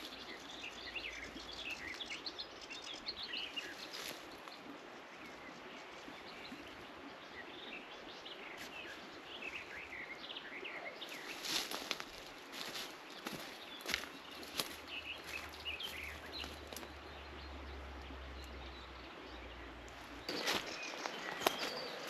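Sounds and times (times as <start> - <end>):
birds chirping and singing: 0.0 - 22.0.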